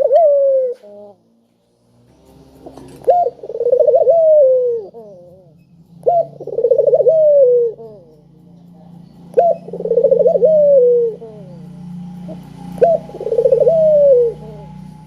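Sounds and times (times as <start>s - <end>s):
dove cooing: 0.0s - 1.3s, 2.6s - 8.4s, 9.3s - 15.0s.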